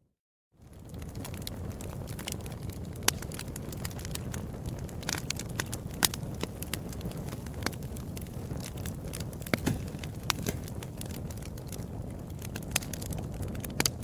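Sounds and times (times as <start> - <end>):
wood fire crackling: 0.6 - 14.0.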